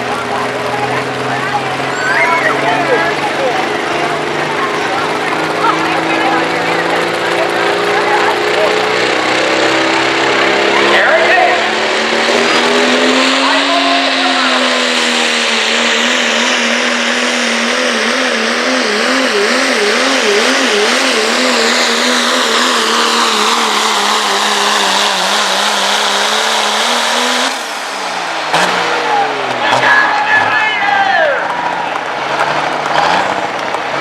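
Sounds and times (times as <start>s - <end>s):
diesel truck engine at full throttle: 0.0s - 34.0s.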